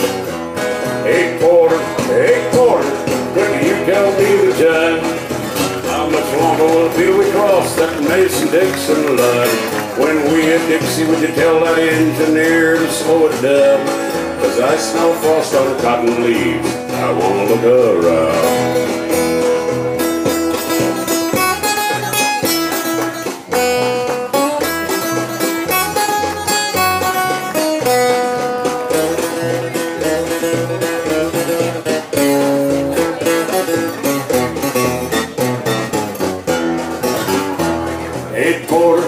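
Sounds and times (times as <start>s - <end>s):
amplified guitars playing melody: 0.0s - 39.0s
steady bass line: 0.0s - 39.0s.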